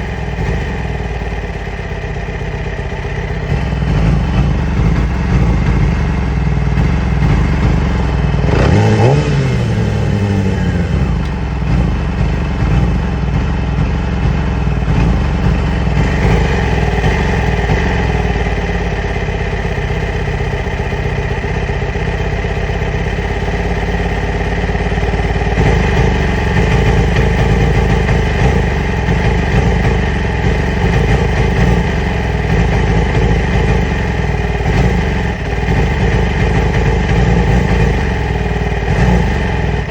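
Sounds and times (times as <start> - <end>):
motorcycle engine idling roughly: 0.0 - 39.9.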